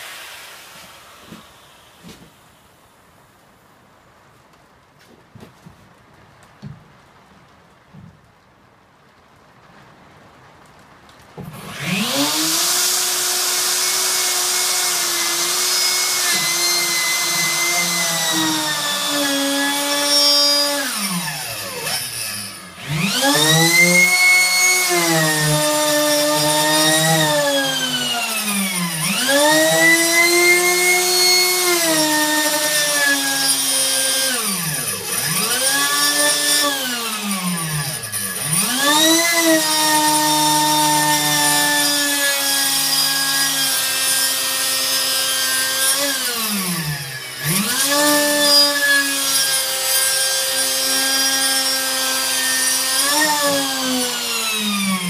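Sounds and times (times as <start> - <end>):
power tool cutting wood: 0.0 - 2.4, 11.4 - 55.0.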